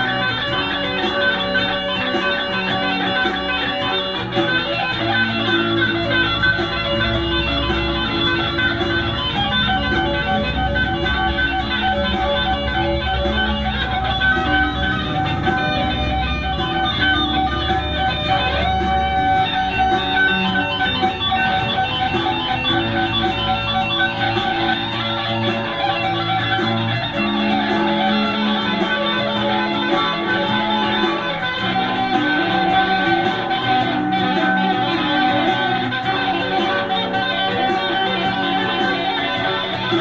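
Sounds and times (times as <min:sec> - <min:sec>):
plucked guitar music: 0:00.0 - 0:40.0.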